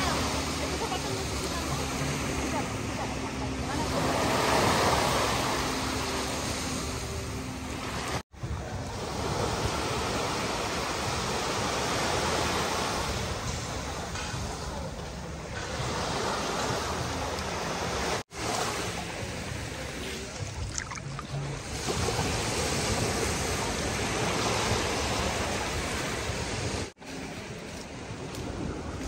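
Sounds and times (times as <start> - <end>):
sea waves breaking on shore: 0.0 - 29.0.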